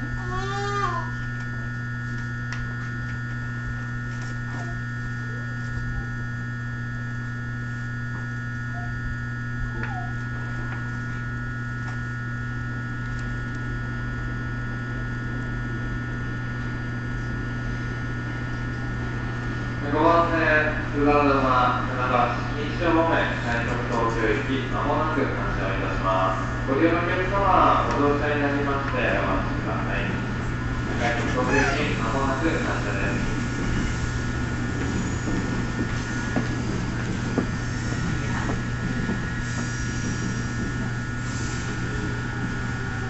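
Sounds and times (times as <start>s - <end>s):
electric train hum: 0.0s - 43.0s.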